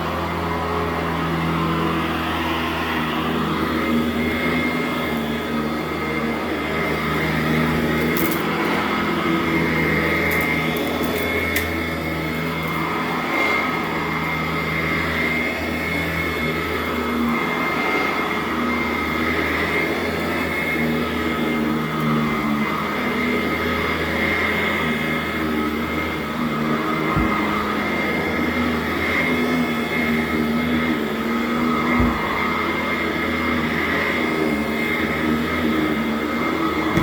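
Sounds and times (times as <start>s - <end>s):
vacuum cleaner running on carpet: 0.0s - 37.0s.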